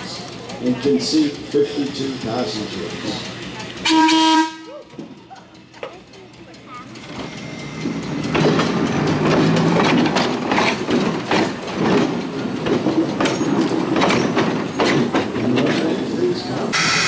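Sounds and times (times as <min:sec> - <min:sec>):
train rumble: 0:00.0 - 0:17.0
wheels clattering over rails: 0:00.0 - 0:17.0.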